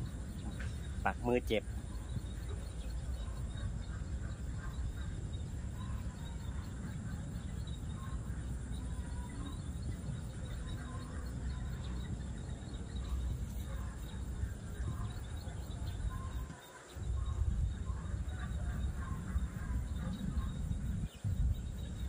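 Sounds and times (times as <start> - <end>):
faint bird chirps: 0.0 - 22.0
insect calls: 0.0 - 22.0
steady low rumble: 0.0 - 22.0.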